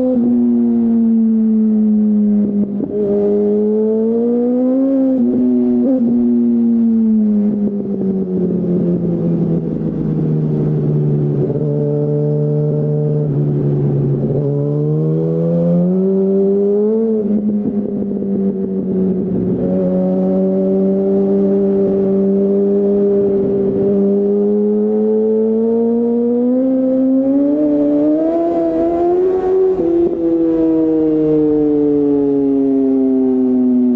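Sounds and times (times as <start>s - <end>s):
motorcycle engine: 1.0s - 33.8s.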